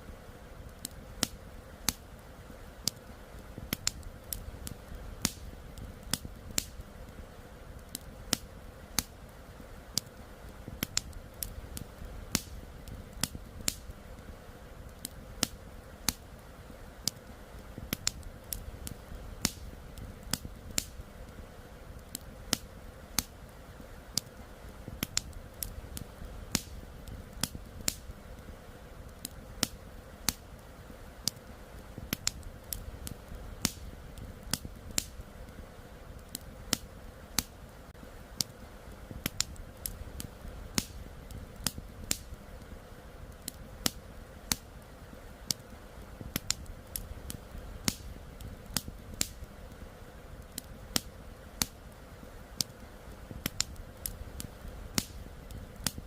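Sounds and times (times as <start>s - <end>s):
soft steady background rush: 0.0s - 56.0s
wood fire crackling and popping: 0.0s - 56.0s.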